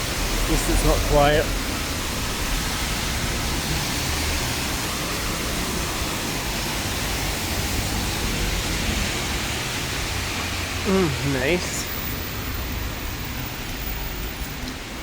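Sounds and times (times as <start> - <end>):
heavy rain on street: 0.0 - 15.0.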